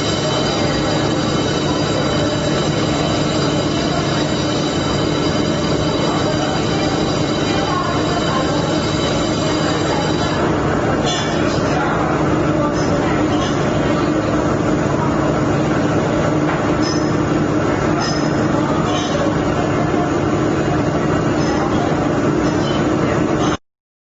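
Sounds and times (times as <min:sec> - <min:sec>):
industrial machinery running: 0:00.0 - 0:23.6.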